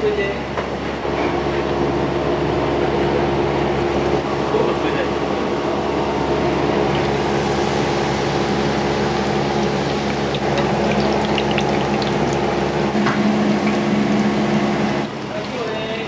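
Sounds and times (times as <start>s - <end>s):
machine hum: 0.9s - 16.0s.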